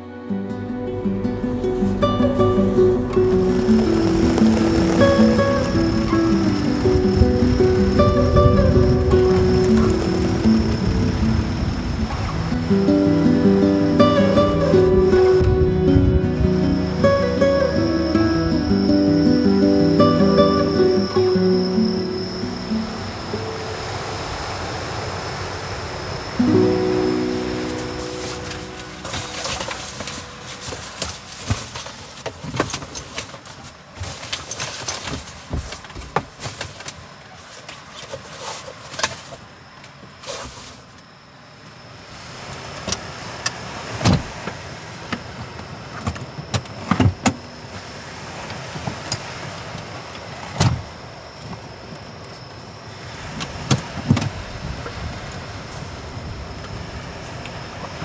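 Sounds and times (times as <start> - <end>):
steady hiss: 0.4 - 58.0.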